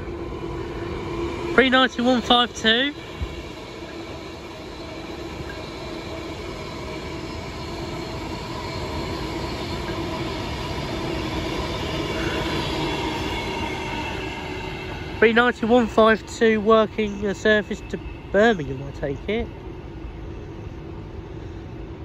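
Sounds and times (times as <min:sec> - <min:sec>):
faint electric whine: 0:00.0 - 0:21.7
train wheels on rail: 0:00.0 - 0:22.0.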